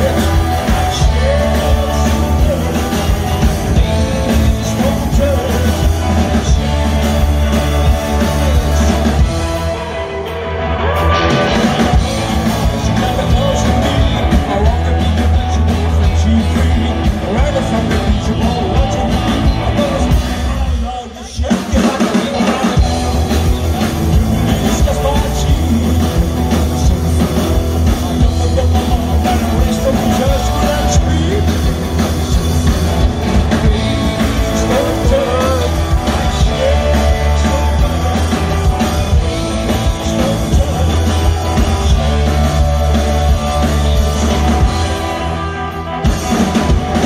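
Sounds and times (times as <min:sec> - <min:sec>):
bass guitar: 0:00.0 - 0:47.0
electric guitar: 0:00.0 - 0:47.0
person singing: 0:00.0 - 0:47.0
rock band playing: 0:00.0 - 0:47.0.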